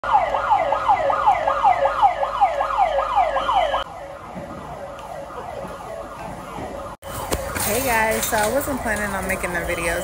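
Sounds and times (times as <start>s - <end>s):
evacuation alarm siren sweeping: 0.0s - 10.0s.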